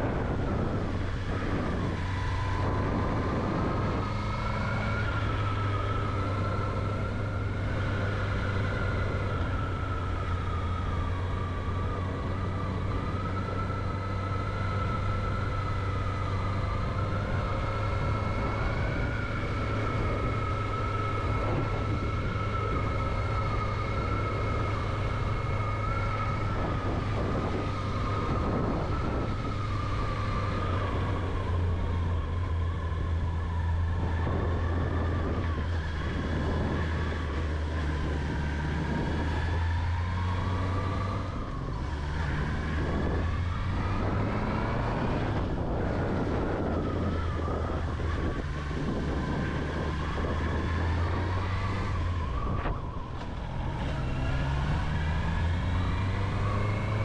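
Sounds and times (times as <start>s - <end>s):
motorcycle engine running while riding: 0.0s - 57.0s.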